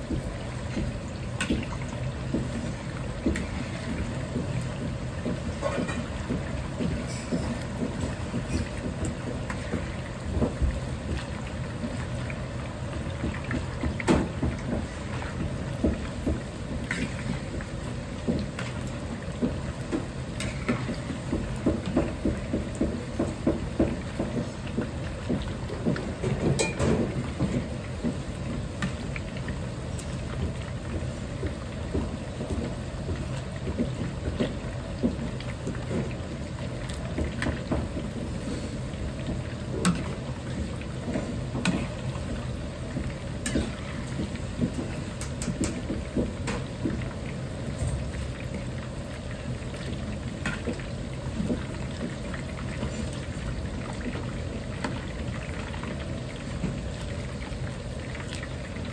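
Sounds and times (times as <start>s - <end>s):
oil crackling and bubbling: 0.0s - 58.9s.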